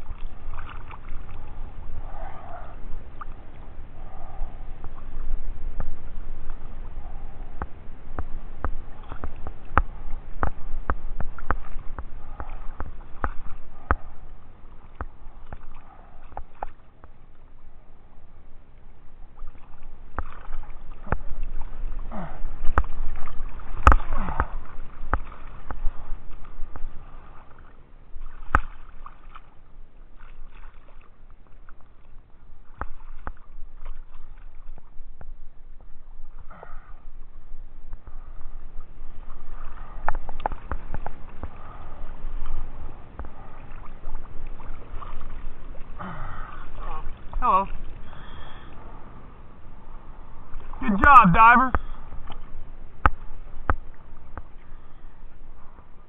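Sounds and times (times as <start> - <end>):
water sloshing and splashing: 0.0 - 56.0.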